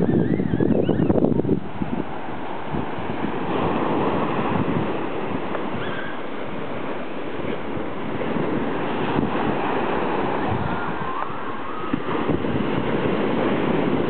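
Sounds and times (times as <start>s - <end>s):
ocean waves washing: 0.0s - 14.0s
wind buffeting microphone: 0.0s - 14.0s.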